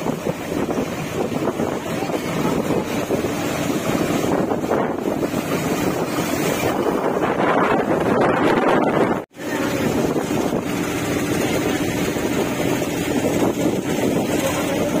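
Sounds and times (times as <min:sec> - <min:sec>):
rushing floodwater: 0:00.0 - 0:15.0
wind buffeting microphone: 0:00.0 - 0:15.0.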